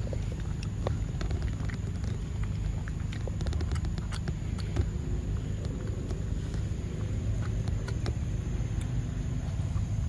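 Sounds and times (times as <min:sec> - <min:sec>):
low rumble: 0:00.0 - 0:10.0
monkey chewing wetly: 0:00.0 - 0:10.0.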